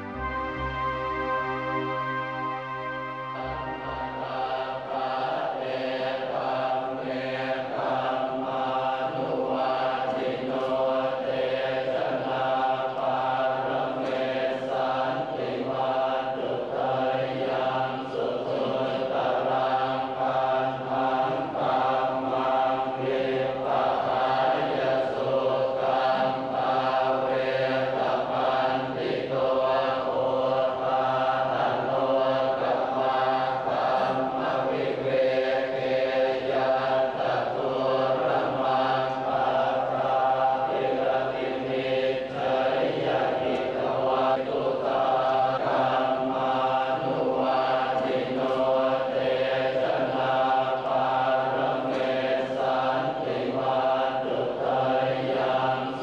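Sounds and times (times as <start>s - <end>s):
men chanting in unison: 4.2s - 56.0s.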